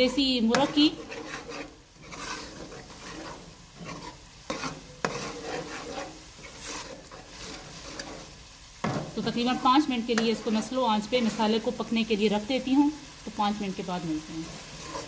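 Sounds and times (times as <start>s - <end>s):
metal spoon scraping a pan: 0.0s - 11.9s, 14.1s - 15.0s
masala sizzling in oil: 0.0s - 15.0s.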